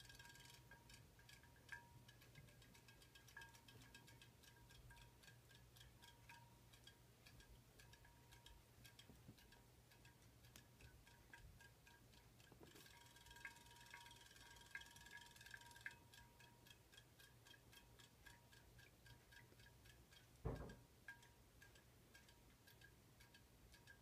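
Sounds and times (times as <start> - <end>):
rapid ticking of toy fish: 0.0 - 24.0.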